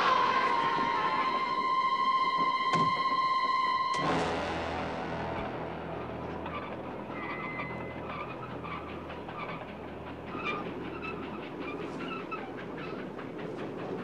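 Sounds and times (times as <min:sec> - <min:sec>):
train rumble: 0:00.0 - 0:14.0
wheels clattering on rails: 0:00.0 - 0:14.0.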